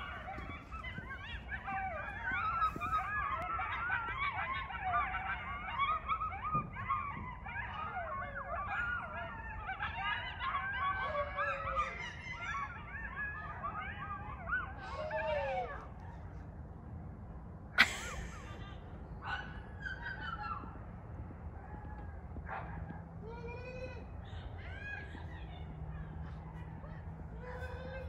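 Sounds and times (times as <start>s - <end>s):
coyotes yipping and howling: 0.0s - 16.6s, 17.8s - 28.0s.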